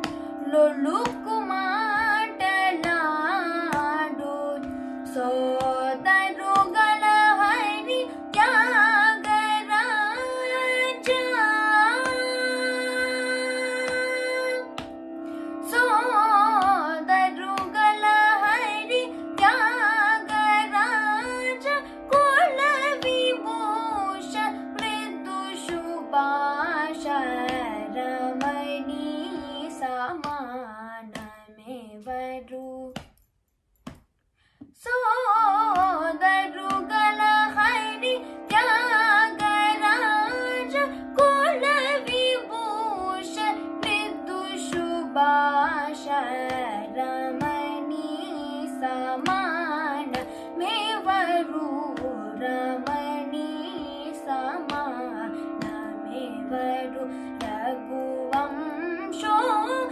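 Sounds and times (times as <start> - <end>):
girl singing: 0.0 - 14.8, 15.5 - 33.0, 34.8 - 59.9.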